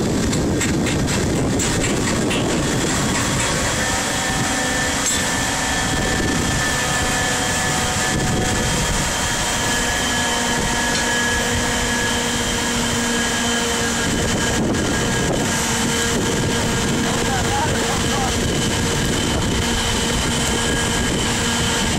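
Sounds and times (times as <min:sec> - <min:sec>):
heavy machinery drone: 0:00.0 - 0:21.9
low whine: 0:00.0 - 0:21.9
thin whining tones: 0:02.6 - 0:21.9.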